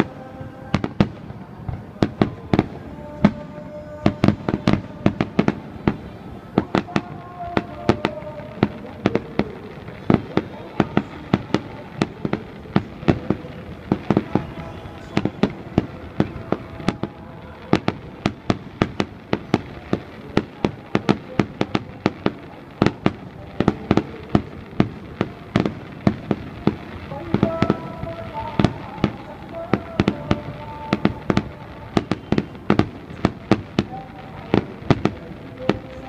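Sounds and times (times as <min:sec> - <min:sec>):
fireworks bursting with sharp bangs: 0:00.0 - 0:36.0.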